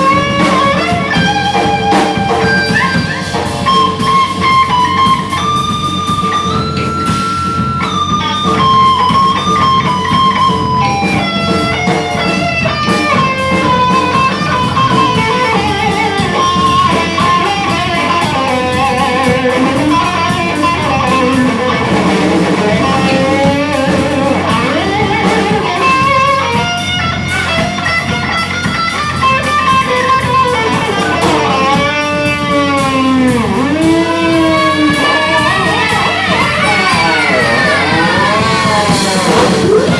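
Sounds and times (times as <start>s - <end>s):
electric guitar sliding lead line: 0.0s - 39.9s
live rock band: 0.0s - 39.9s.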